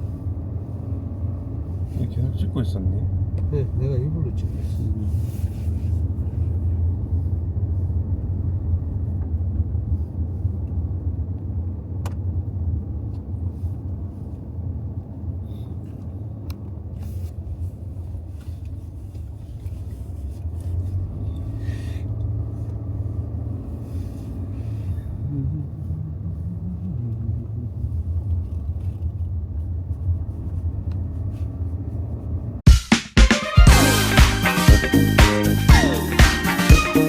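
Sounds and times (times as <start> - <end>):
car road and engine rumble: 0.0 - 32.7.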